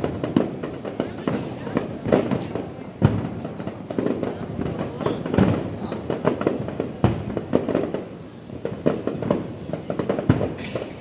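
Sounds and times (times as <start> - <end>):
fireworks booming and popping: 0.0 - 11.0.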